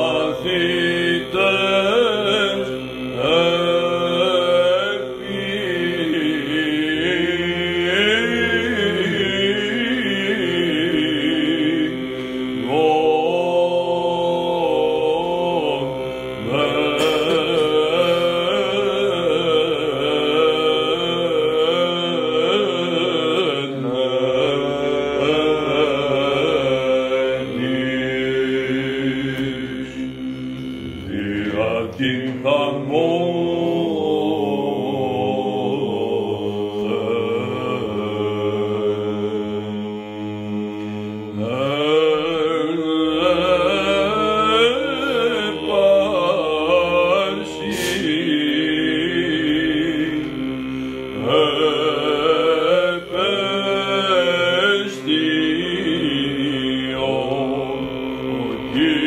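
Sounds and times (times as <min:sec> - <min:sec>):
held drone note: 0:00.0 - 0:59.0
man singing solo chant: 0:00.0 - 0:59.0.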